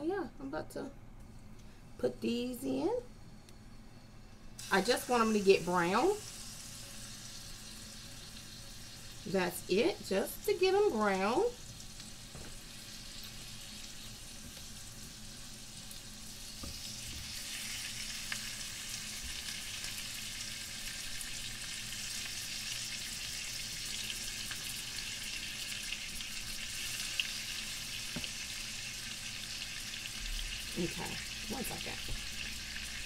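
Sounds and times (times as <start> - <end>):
meat sizzling in hot oil: 4.6 - 33.0.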